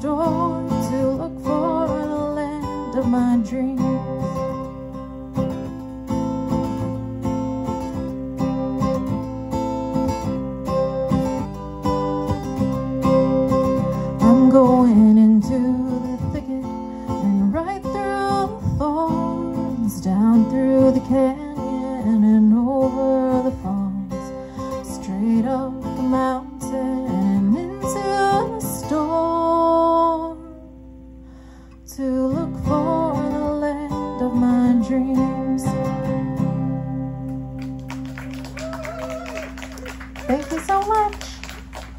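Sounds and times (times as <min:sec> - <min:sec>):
acoustic guitar music: 0:00.0 - 0:41.9.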